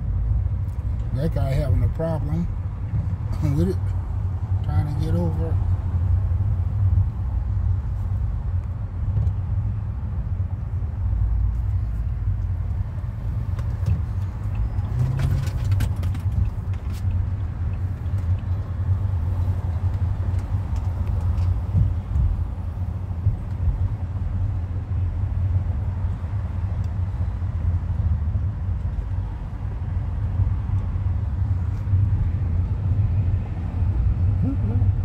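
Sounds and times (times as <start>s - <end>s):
road rumble inside car: 0.0s - 35.0s.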